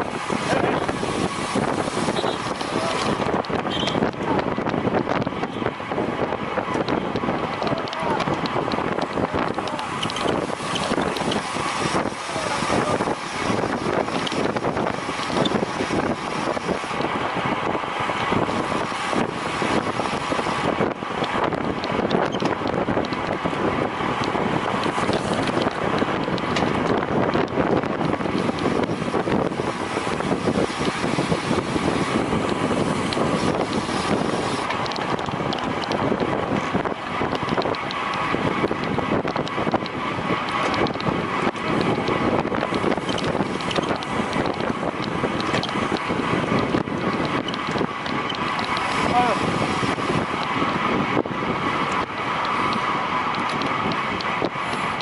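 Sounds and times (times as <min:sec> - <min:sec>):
bicycle tyre and drivetrain noise: 0:00.0 - 0:55.0
wind rushing over microphone: 0:00.0 - 0:55.0.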